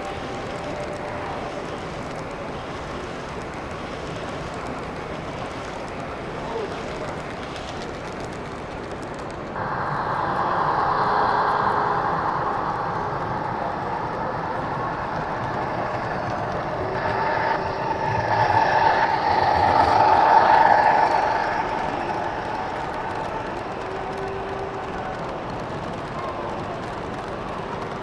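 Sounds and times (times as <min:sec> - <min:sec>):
model train rattling on track: 0:00.0 - 0:28.0.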